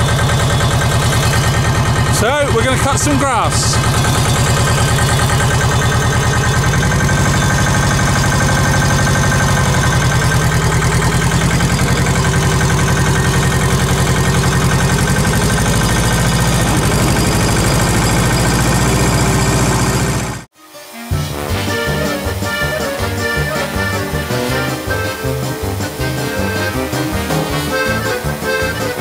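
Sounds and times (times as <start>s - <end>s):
diesel tractor engine running: 0.0s - 20.5s, 21.2s - 29.0s.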